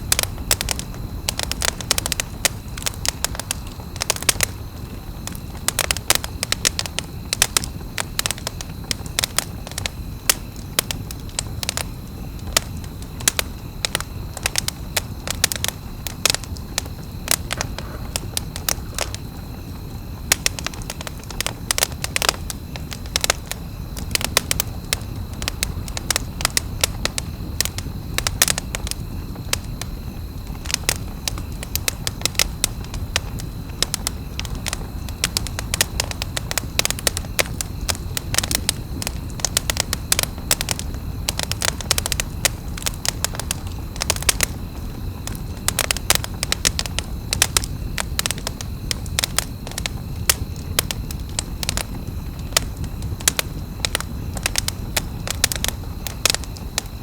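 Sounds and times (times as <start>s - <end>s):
burning wood snapping and popping: 0.0s - 57.0s
flames rushing: 0.0s - 57.0s.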